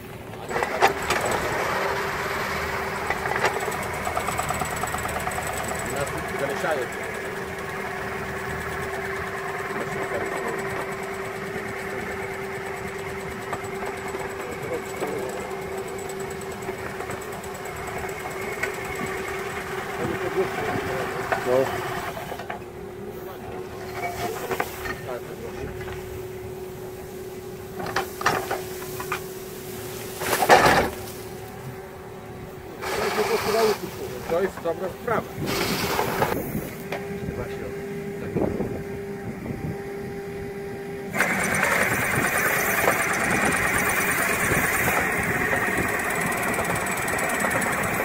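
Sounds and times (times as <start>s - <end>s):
diesel engine running with whine: 0.0s - 48.0s
mowing bucket cutting vegetation: 0.0s - 48.0s.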